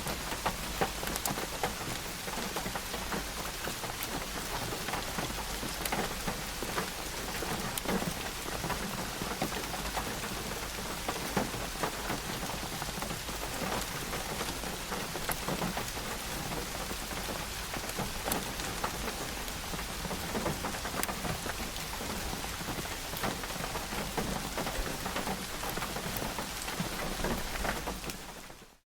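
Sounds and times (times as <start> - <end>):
rain hissing: 0.0 - 28.6
raindrops clicking on surfaces: 0.0 - 28.8.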